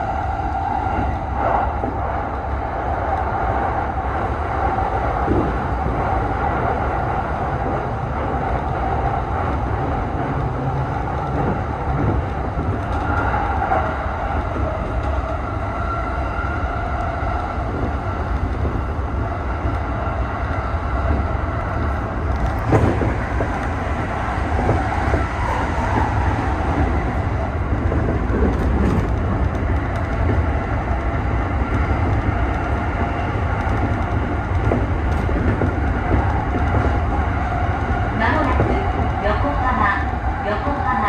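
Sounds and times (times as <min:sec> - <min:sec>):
wheels rumbling on rail: 0:00.0 - 0:41.0.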